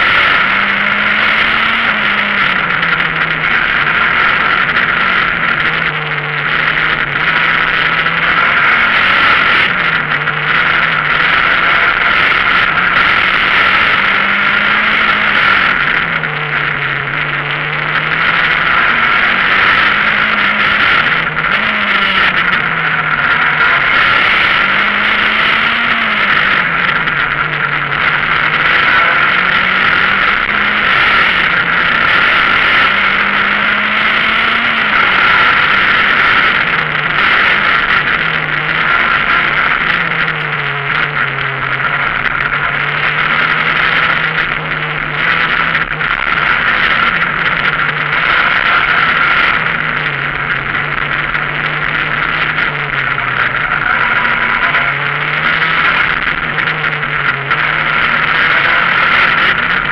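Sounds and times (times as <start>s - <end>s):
car engine revving: 0.0s - 59.9s
road and cabin noise: 0.0s - 59.9s.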